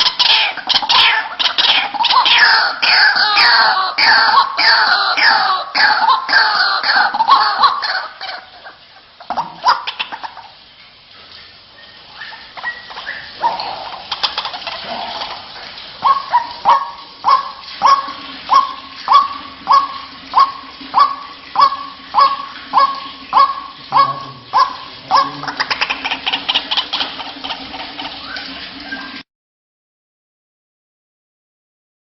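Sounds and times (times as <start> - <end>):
waterhen calls: 0.0 - 29.2.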